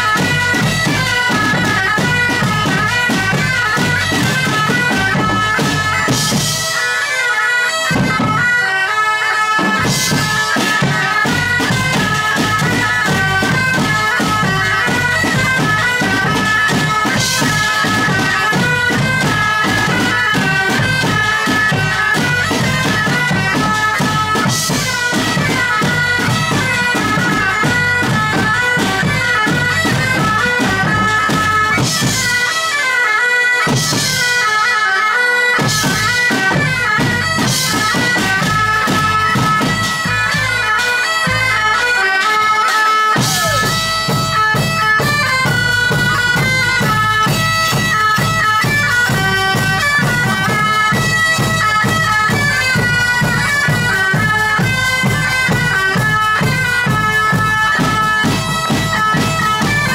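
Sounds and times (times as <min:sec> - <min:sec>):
bagpipes playing a lively melody: 0:00.0 - 0:59.9
drums: 0:00.0 - 0:59.9.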